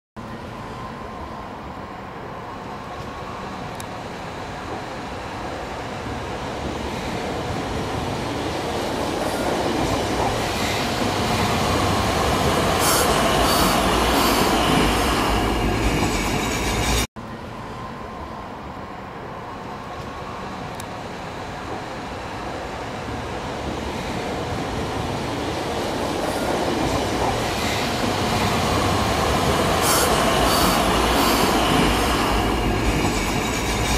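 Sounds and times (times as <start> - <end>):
tram running on track: 0.2 - 33.9.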